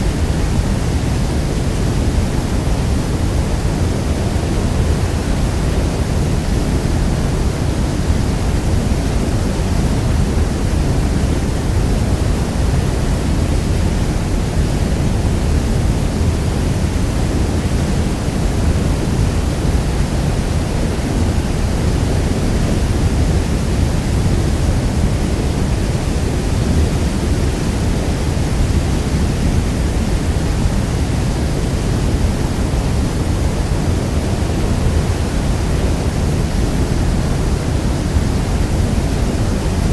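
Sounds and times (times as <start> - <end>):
roar of massive waterfall: 0.0 - 39.9.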